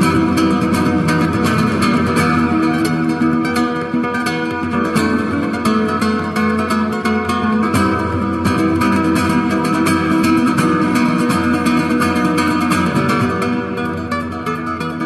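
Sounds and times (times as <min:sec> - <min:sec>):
plucked guitar piece: 0:00.0 - 0:15.0.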